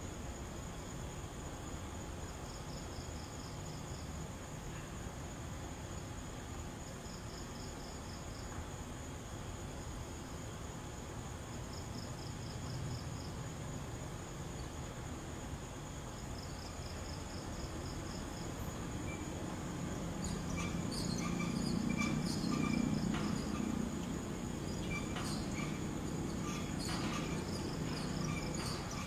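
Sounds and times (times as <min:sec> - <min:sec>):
crickets chirping: 0:00.0 - 0:29.0
high insect drone: 0:00.0 - 0:29.0.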